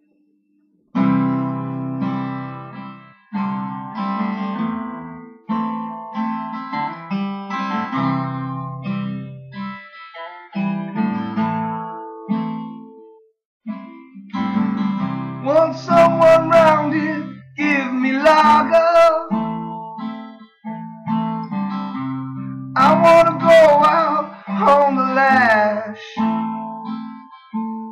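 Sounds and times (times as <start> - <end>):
acoustic guitar strumming chords: 0.9 - 27.9.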